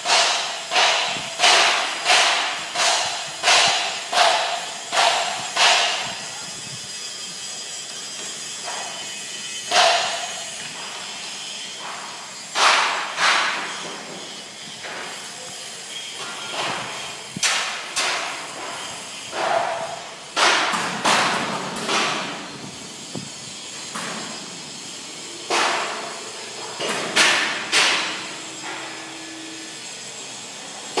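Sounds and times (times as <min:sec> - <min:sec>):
hammer striking sheet steel: 0:00.0 - 0:06.6, 0:08.2 - 0:15.5, 0:16.1 - 0:30.0.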